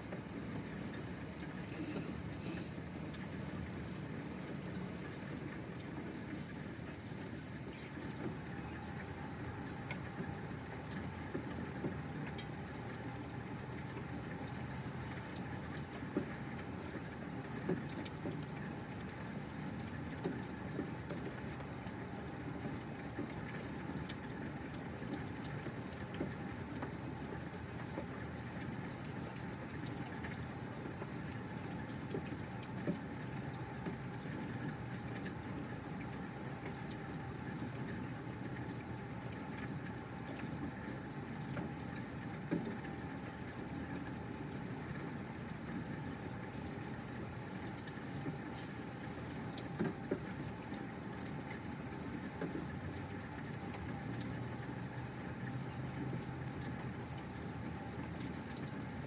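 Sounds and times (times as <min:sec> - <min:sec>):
raindrop ticks: 0:00.0 - 0:59.0
steady rain falling: 0:00.0 - 0:59.0.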